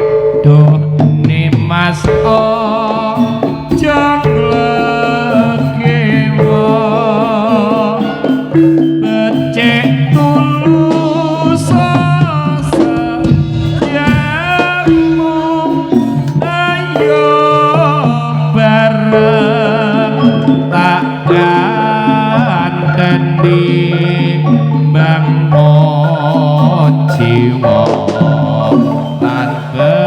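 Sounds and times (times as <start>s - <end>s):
drums: 0.0s - 30.0s
wavering melody line: 0.0s - 30.0s.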